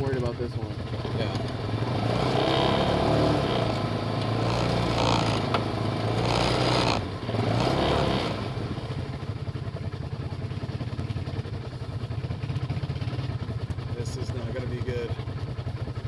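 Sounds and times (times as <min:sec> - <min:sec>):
off-road vehicle engine: 0:00.0 - 0:16.0.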